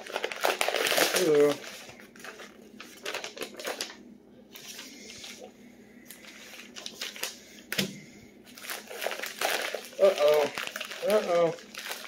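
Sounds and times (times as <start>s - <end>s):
packing paper rustling: 0.0s - 5.5s, 6.1s - 12.0s.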